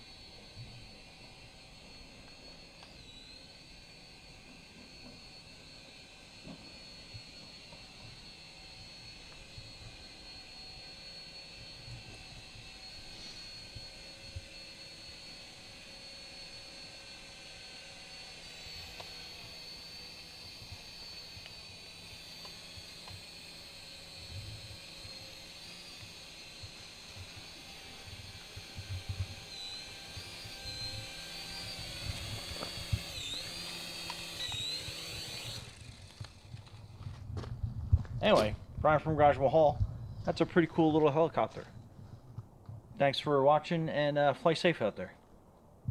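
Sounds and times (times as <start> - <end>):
toy helicopter motors whirring: 0.0 - 37.0.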